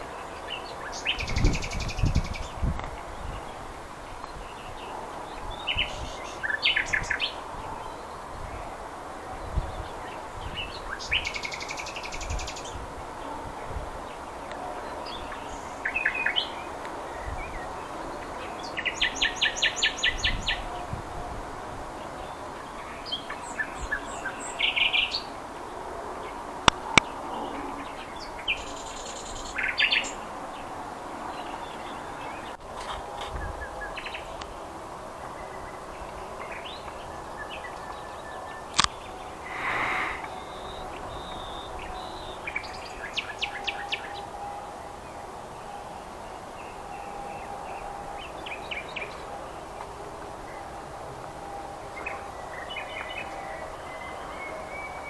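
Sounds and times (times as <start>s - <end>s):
songbirds singing: 0.0s - 55.0s
steady background noise: 0.0s - 55.0s.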